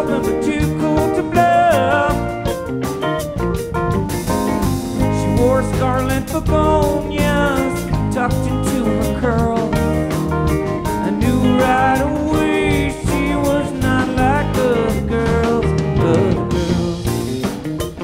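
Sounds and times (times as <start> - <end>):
man singing lead vocal: 0.0 - 2.6, 5.0 - 17.5
acoustic guitar: 0.0 - 18.0
electric guitar: 0.0 - 18.0.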